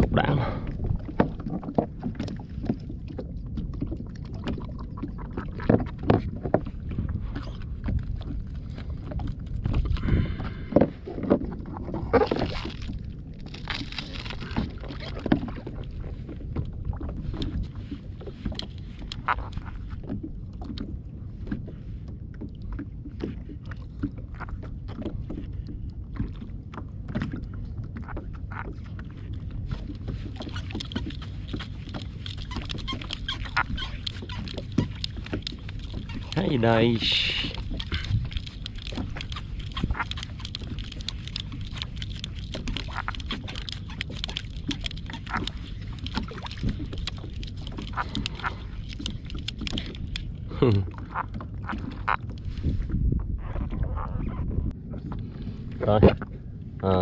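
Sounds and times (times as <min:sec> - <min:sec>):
water splashing: 0:00.0 - 0:21.6, 0:22.4 - 0:54.3
water lapping against kayak hull: 0:00.0 - 0:57.0
wind rumble on microphone: 0:00.0 - 0:57.0.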